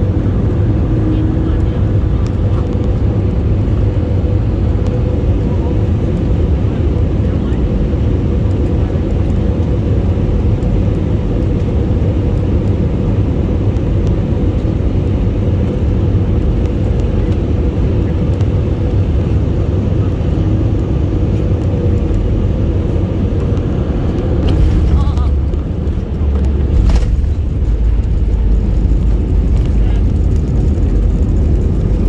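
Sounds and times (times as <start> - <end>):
airplane low rumble: 0.0 - 32.0.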